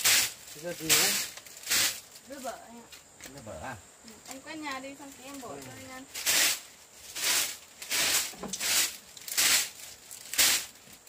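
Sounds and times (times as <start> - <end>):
broom sweeping earth floor: 0.0 - 3.6, 5.0 - 11.0.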